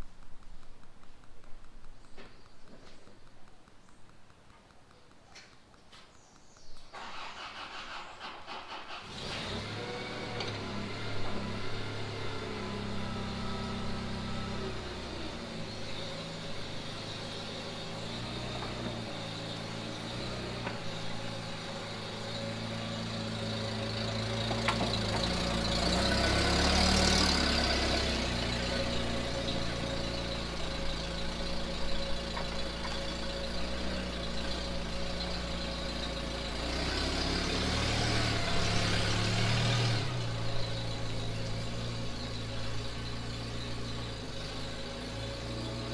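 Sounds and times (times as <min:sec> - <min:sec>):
car engine idling: 0:06.9 - 0:45.9.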